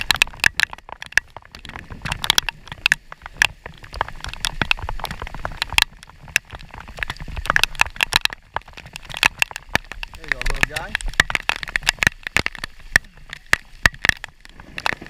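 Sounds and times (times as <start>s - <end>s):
raindrops hitting microphone: 0.0s - 15.0s.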